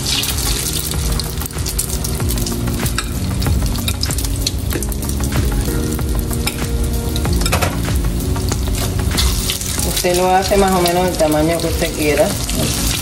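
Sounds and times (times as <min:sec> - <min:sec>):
batter frying with pops: 0:00.0 - 0:13.0.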